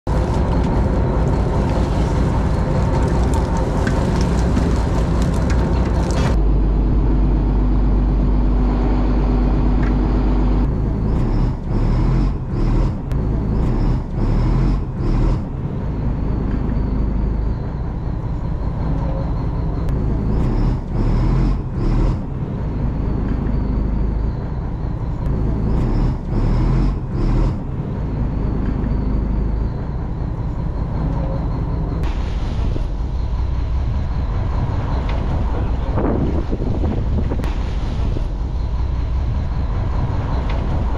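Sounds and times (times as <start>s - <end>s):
boat engine rumbling: 0.0s - 40.9s
wind: 0.0s - 40.9s.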